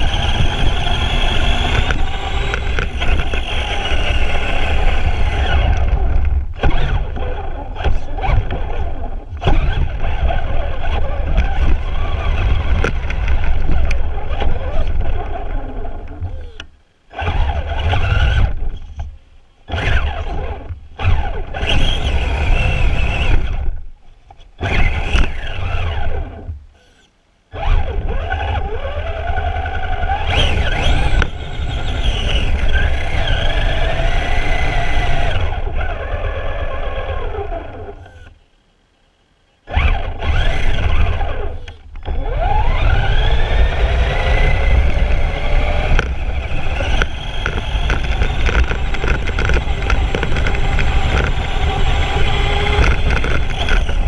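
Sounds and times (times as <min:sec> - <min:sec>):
electric toy truck motor whining: 0:00.0 - 0:23.8, 0:24.6 - 0:38.4, 0:39.7 - 0:54.0.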